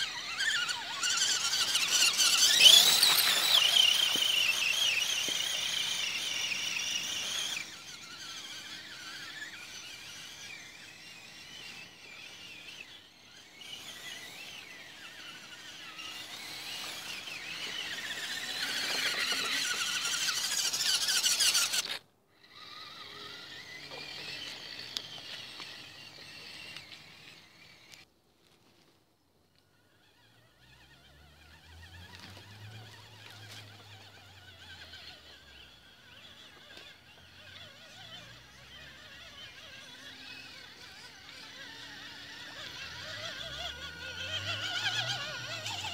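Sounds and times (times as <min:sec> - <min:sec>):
rc truck motors whining: 0:00.0 - 0:45.9.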